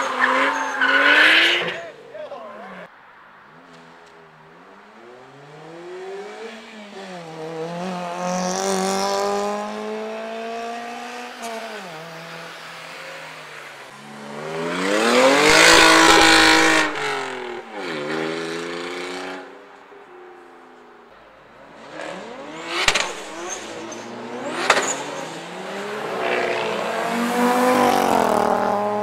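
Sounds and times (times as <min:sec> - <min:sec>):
car engines revving and accelerating: 0:00.0 - 0:29.0.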